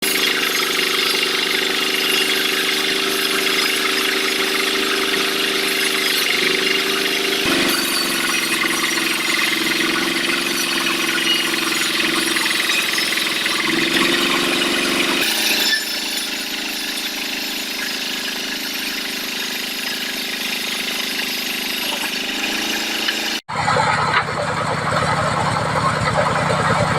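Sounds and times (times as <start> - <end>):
band saw sawing a log: 0.0 - 26.9.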